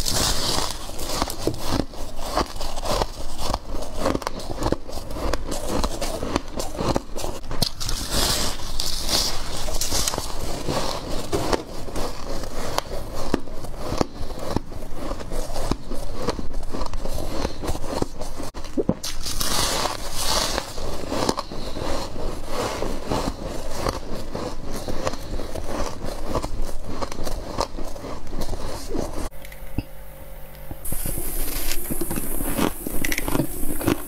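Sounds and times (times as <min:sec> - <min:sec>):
frost being chewed crunching: 0:00.0 - 0:29.3, 0:30.9 - 0:34.0.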